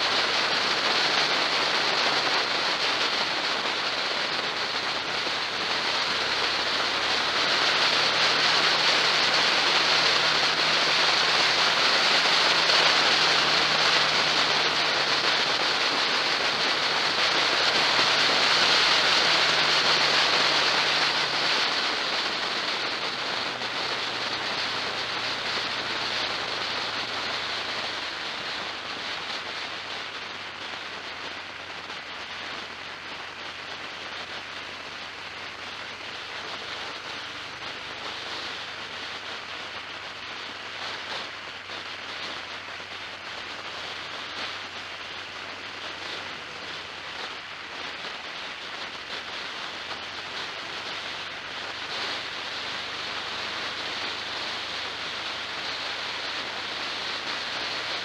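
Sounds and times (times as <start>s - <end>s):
low engine hum: 0.0s - 48.1s
rushing wind: 0.0s - 58.0s
vehicle road noise: 0.0s - 58.0s.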